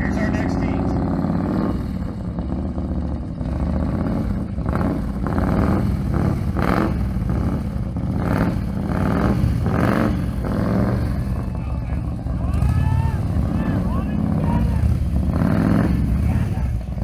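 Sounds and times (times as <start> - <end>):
engine revving bursts: 0.0 - 17.0
motorcycle engines rumbling: 0.0 - 17.0.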